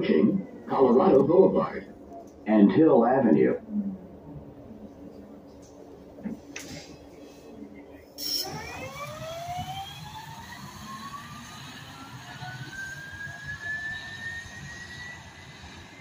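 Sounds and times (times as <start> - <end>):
electric bus whine rising: 0.0 - 16.0
low traffic rumble: 0.0 - 16.0.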